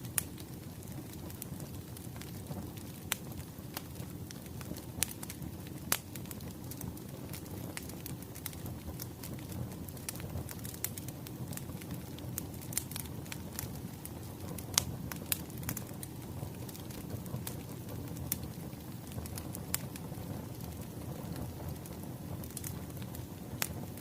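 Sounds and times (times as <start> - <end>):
fire crackling: 0.0 - 24.0
low rumble of flames: 0.0 - 24.0.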